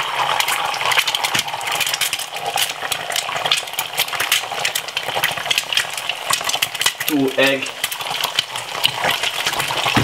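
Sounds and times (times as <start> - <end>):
crackles and pops of frying oil: 0.0 - 10.0
egg sizzling in frying pan: 0.0 - 10.0.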